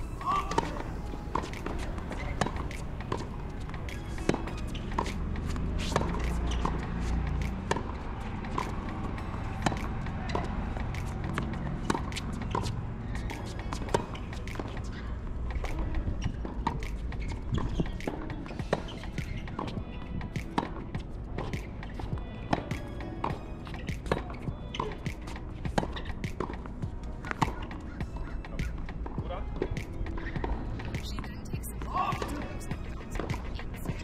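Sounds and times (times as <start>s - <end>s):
tennis balls struck by racquets: 0.0s - 34.0s.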